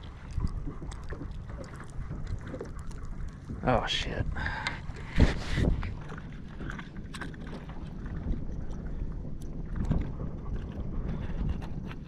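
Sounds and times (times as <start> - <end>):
water lapping at hull: 0.0 - 12.0
wind rumbling on microphone: 0.0 - 12.0.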